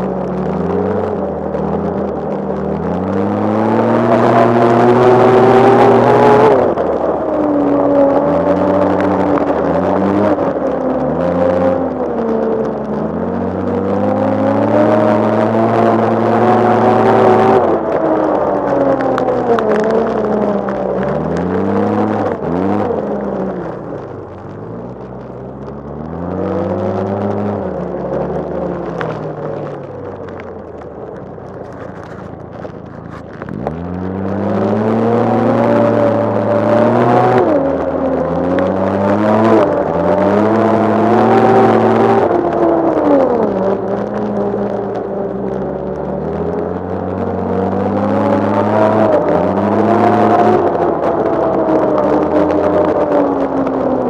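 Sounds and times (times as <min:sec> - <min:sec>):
snowmobile engine revving: 0:00.0 - 0:24.1, 0:32.9 - 0:45.0, 0:45.7 - 0:54.0.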